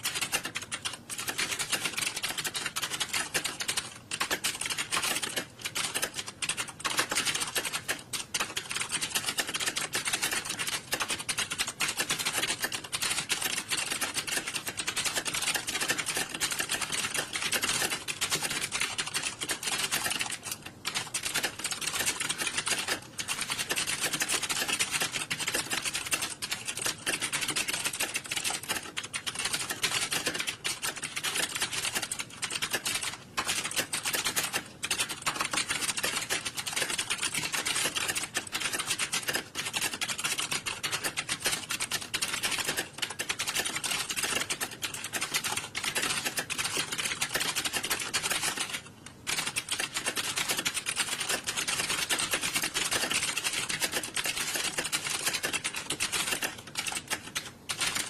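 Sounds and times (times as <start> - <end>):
keyboards typing clatter: 0.0 - 58.0.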